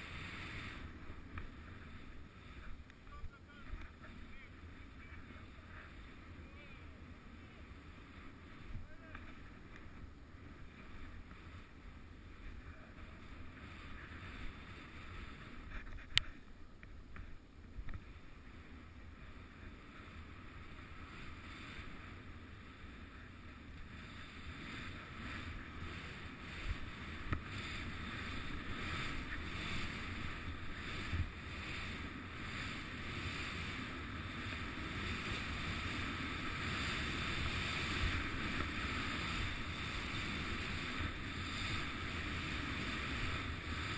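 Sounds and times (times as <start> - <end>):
skis running through snow: 0.0 - 16.4, 18.0 - 43.9.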